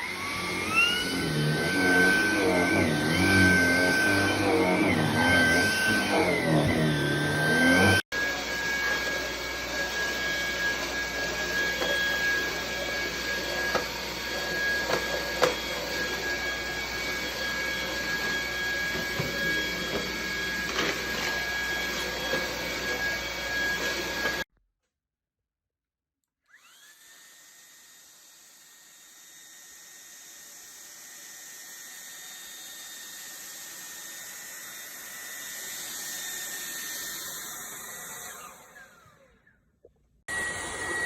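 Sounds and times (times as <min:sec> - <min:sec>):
vacuum motor whine: 0:00.0 - 0:24.4, 0:26.5 - 0:39.6, 0:40.3 - 0:41.0.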